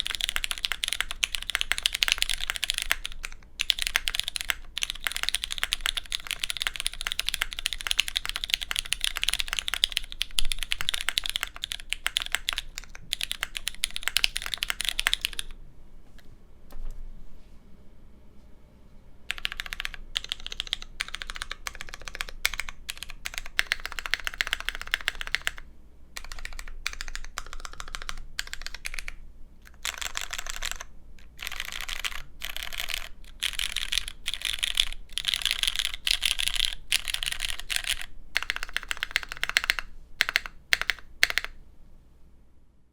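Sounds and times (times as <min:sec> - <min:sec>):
fast typing on mechanical keyboard: 0:00.0 - 0:15.6, 0:19.3 - 0:41.6.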